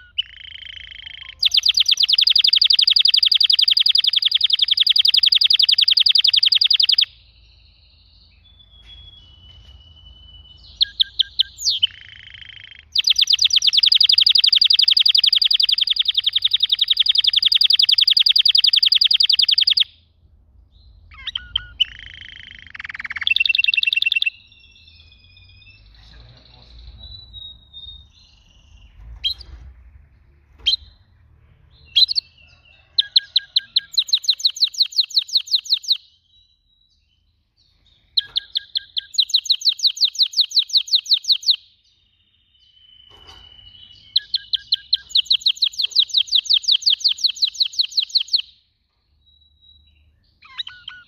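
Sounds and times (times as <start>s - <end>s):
canary singing: 0.0s - 20.1s, 20.7s - 29.6s, 31.7s - 51.0s.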